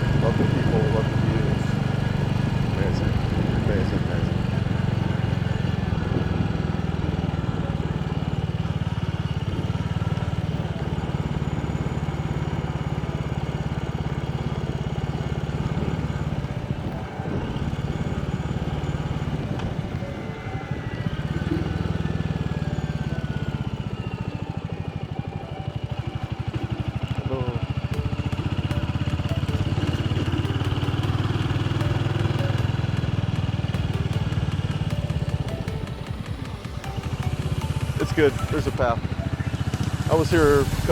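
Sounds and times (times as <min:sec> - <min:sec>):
small motorcycle engine running: 0:00.0 - 0:40.9.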